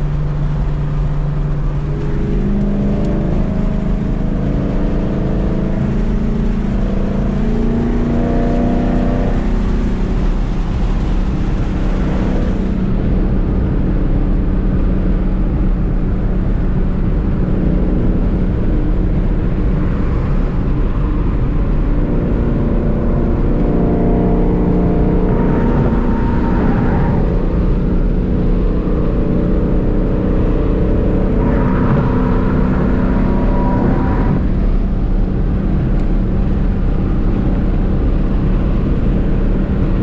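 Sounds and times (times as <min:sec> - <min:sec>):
car engine inside cabin: 0:00.0 - 0:40.0
tyre road noise: 0:00.0 - 0:40.0.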